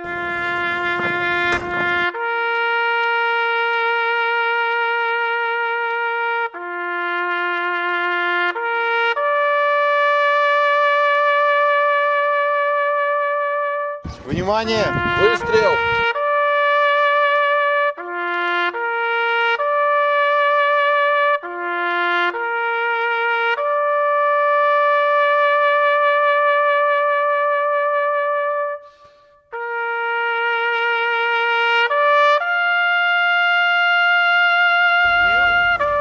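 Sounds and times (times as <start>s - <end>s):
solo trumpet melody: 0.0s - 36.0s.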